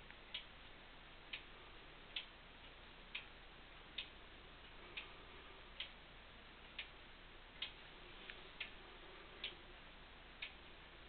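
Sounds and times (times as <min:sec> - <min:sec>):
clock ticking: 0:00.1 - 0:08.8, 0:09.4 - 0:09.7, 0:10.3 - 0:11.0.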